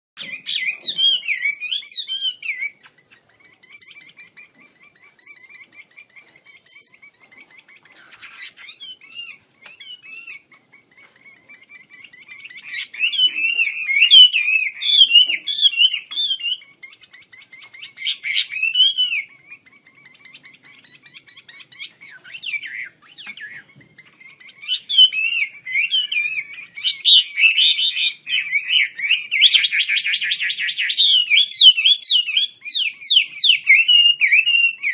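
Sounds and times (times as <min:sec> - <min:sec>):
bird warbling: 0:00.2 - 0:34.9.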